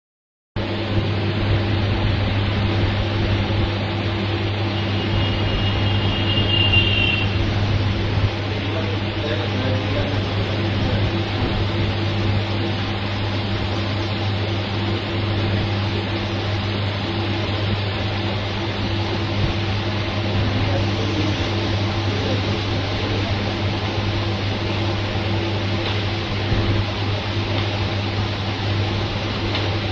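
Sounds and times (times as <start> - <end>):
machine hum: 0.6 - 29.9
rushing air noise: 0.6 - 29.9.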